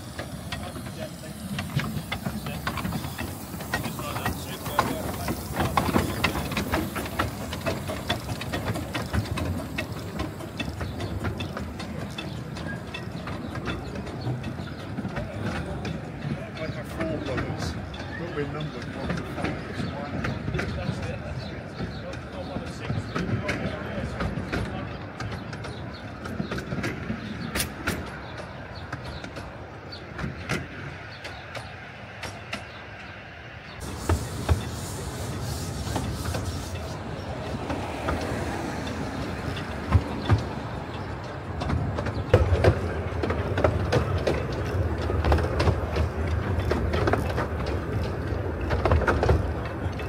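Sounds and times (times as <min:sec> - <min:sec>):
miniature train rumbling on track: 0:00.0 - 0:50.0
wheels clicking over rail joints: 0:00.0 - 0:50.0.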